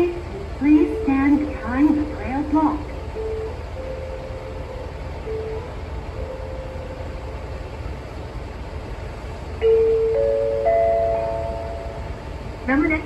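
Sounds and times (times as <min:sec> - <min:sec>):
low rumble of railway platform: 0:00.0 - 0:13.0.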